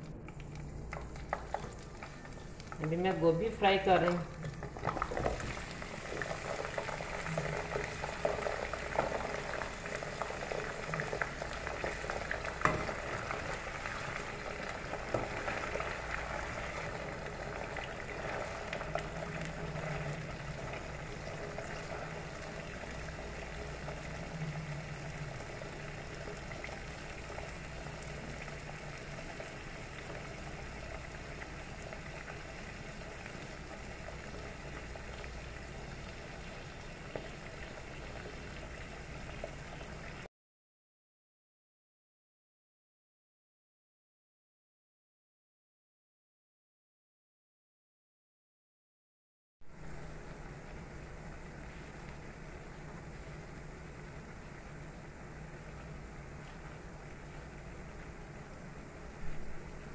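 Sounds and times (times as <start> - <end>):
food frying in hot oil: 0.0 - 40.3, 49.7 - 59.9.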